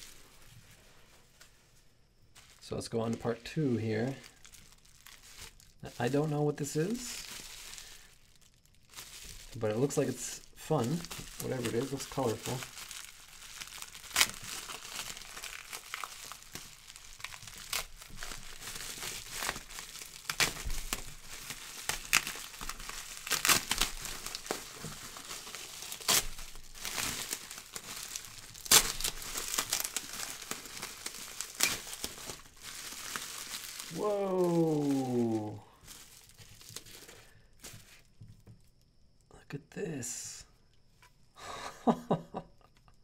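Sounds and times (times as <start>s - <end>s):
packaging crinkling and rustling: 0.0s - 38.7s.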